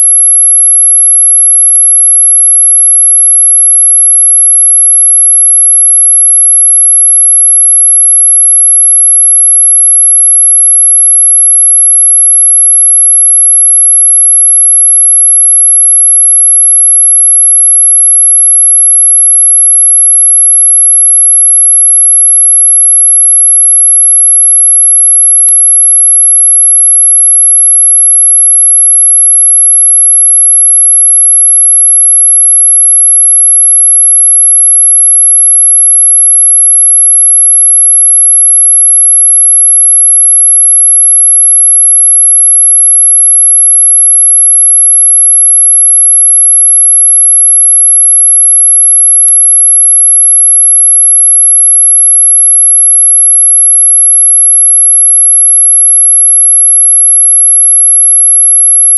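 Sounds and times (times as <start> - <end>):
high-pitched sine tone: 0.0 - 58.9.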